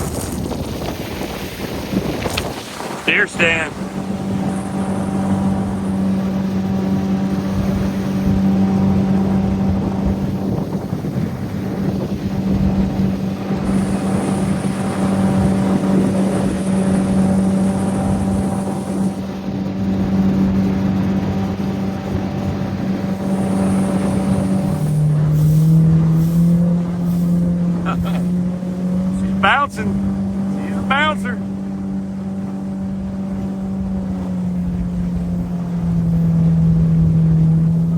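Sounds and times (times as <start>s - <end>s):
boat motor running: 0.0s - 37.9s.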